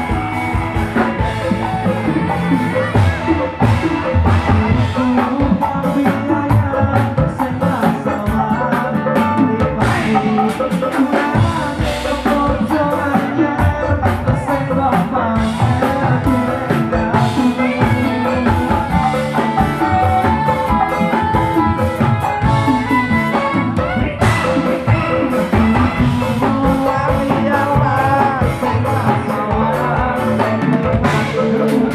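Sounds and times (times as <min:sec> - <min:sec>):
drum kit: 0:00.0 - 0:31.9
electric guitar: 0:00.0 - 0:31.9
keyboard: 0:00.0 - 0:31.9
man singing into microphone: 0:01.4 - 0:31.9.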